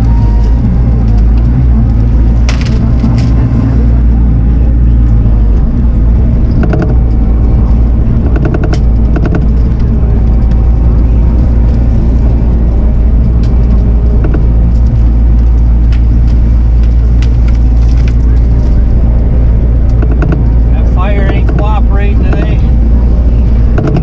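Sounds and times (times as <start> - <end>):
diesel engine running: 0.0 - 24.0
short clatters and cracks: 1.0 - 3.8, 6.4 - 24.0.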